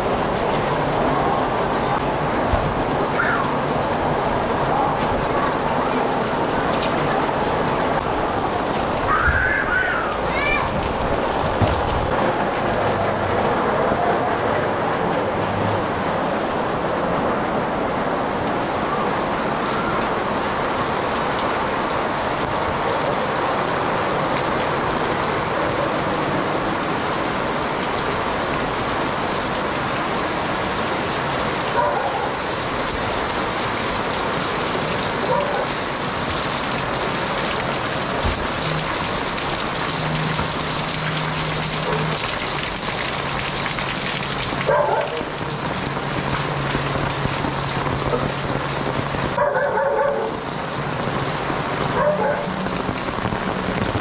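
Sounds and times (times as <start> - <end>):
torrential rain on pavement: 0.0 - 54.0.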